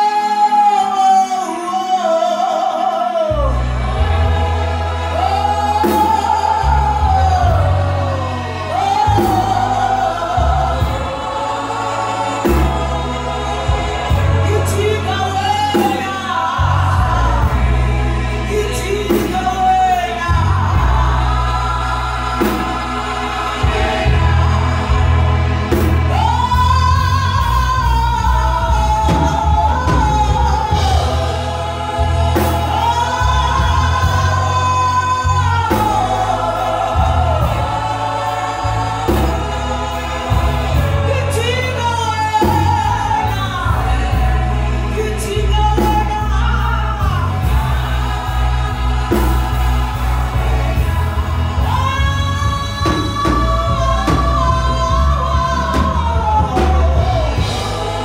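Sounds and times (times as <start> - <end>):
group singing in harmony: 0.0 - 58.0
lead voice singing melody: 0.0 - 58.0
keyboard low bass notes: 3.3 - 58.0.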